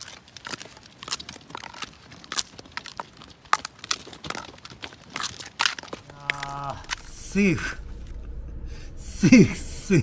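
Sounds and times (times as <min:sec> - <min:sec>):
rain crackling close up: 0:00.0 - 0:10.0.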